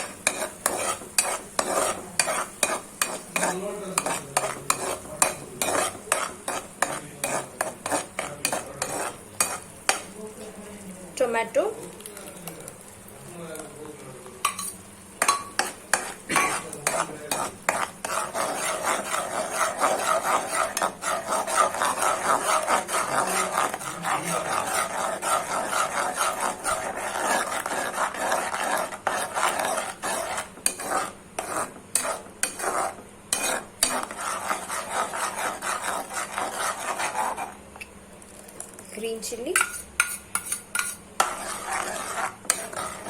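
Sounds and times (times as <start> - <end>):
spatula scraping a pan: 0.0 - 10.4, 14.4 - 37.9, 38.6 - 43.0
steady sizzle: 0.0 - 43.0.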